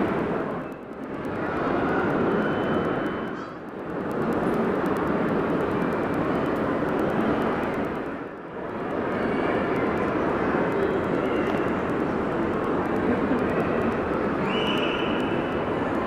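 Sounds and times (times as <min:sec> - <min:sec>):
crowd voices in indoor hall: 0:00.0 - 0:16.0.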